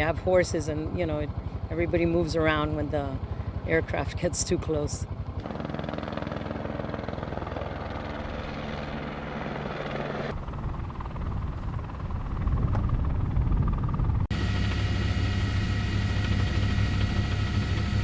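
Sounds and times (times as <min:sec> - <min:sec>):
helicopter rotor beating: 0:00.0 - 0:18.0.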